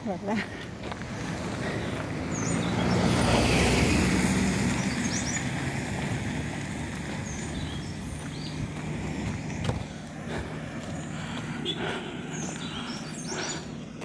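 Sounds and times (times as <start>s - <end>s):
birds chirping: 0.0s - 14.0s
car driving by: 0.7s - 14.0s.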